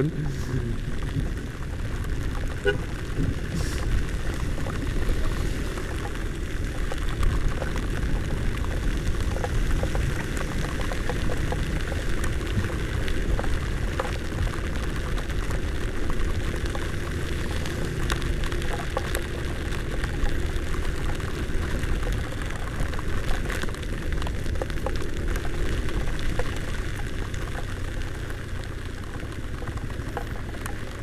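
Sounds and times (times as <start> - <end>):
heavy rain: 0.0 - 31.0
motor scooter rumble: 0.0 - 31.0
raindrops ticking on microphone: 0.0 - 31.0
wind rush on microphone: 0.0 - 31.0.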